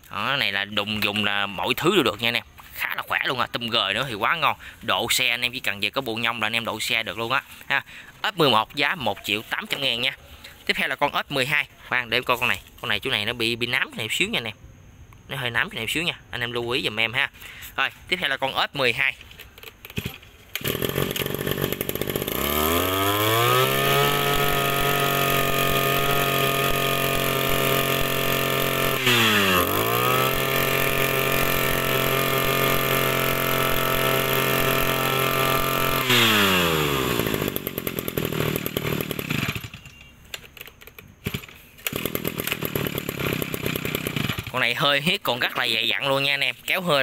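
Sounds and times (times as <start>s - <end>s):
brush cutter engine revving: 0.0s - 13.3s, 18.9s - 40.1s, 40.9s - 46.2s.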